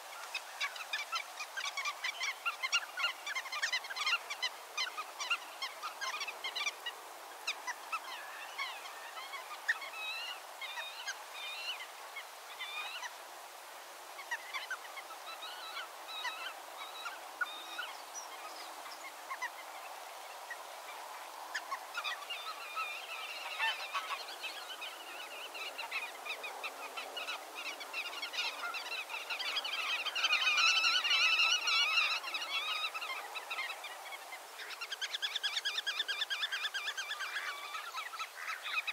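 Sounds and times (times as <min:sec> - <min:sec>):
waterbirds calling: 0:00.0 - 0:38.9.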